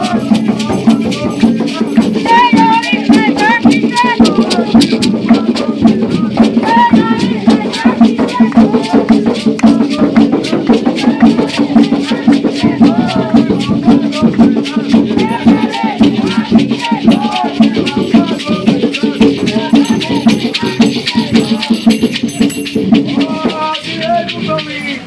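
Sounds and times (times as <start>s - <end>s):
maracas shaken in fast rhythm: 0.0s - 25.0s
voices singing a ritual chant: 0.0s - 25.0s.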